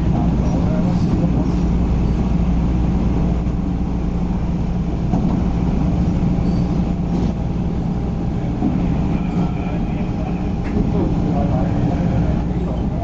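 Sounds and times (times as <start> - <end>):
electric train rumble and hum: 0.0 - 13.0.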